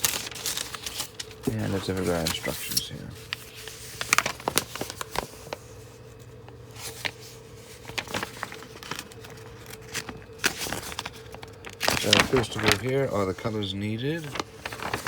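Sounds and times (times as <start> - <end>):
faint steady hum: 0.0 - 15.0
paper pages rustling: 0.0 - 15.0.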